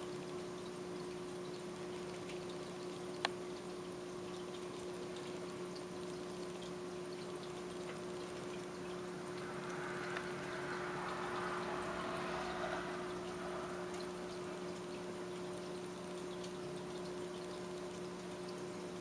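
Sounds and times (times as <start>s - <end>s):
aquarium water trickling and bubbling: 0.0s - 19.0s
low steady hum: 0.0s - 19.0s.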